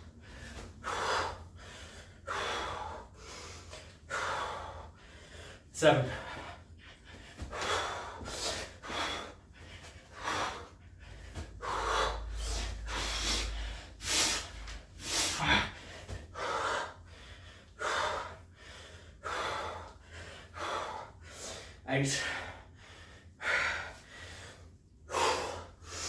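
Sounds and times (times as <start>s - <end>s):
man breathing hard: 0.0s - 26.0s.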